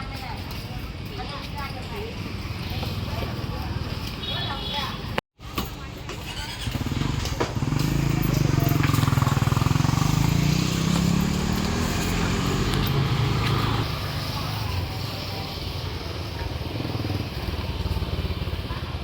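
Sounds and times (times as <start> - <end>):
motorbike engine running: 1.9 - 4.5, 5.6 - 19.0.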